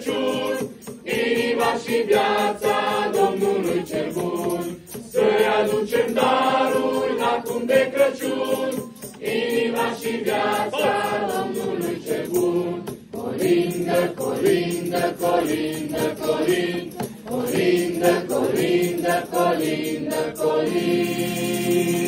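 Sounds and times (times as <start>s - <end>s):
young people singing a carol: 0.0s - 22.0s.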